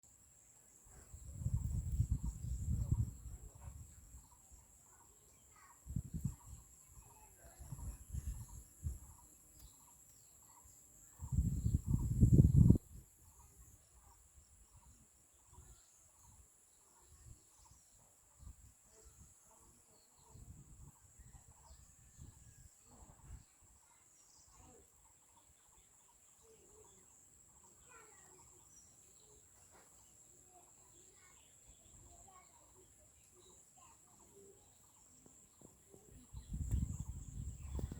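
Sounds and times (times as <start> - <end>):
bird chirps: 0.9 - 37.9.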